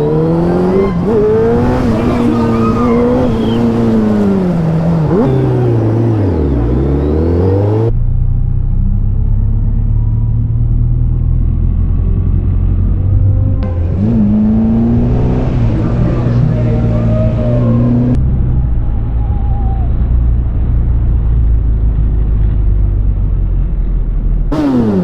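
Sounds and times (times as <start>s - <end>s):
motorcycle engine revving: 0.0s - 19.0s, 22.0s - 25.0s.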